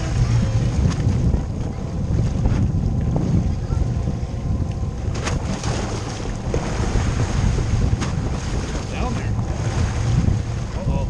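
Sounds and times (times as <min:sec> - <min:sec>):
water washing against hull: 0:00.0 - 0:11.0
wind buffeting microphone: 0:00.0 - 0:11.0.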